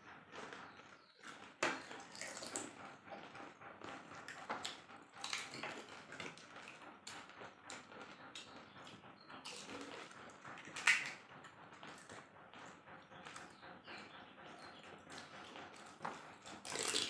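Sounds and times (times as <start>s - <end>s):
chewing and slurping: 0.2s - 17.0s.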